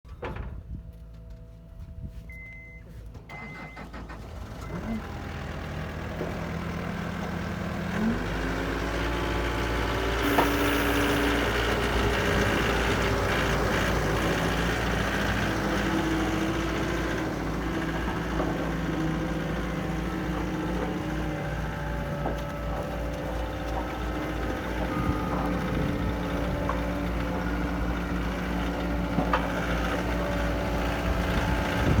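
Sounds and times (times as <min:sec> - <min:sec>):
diesel engine running: 0:00.9 - 0:32.0.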